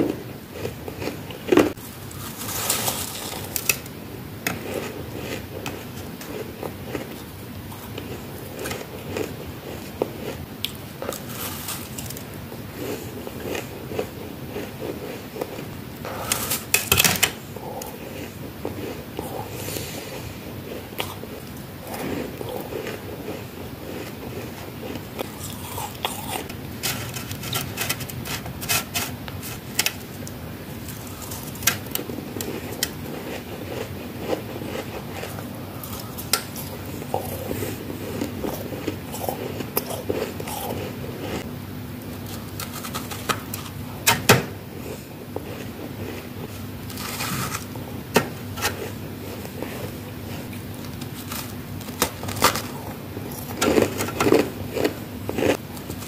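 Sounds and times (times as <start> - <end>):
crunching ice popsicles: 0.5 - 41.5, 44.8 - 56.0.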